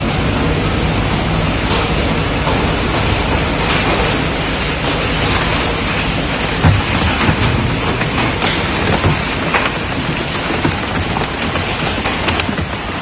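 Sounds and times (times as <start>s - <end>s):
scrap shredder running: 0.0s - 13.0s
sharp cracks and crashes: 1.7s - 13.0s.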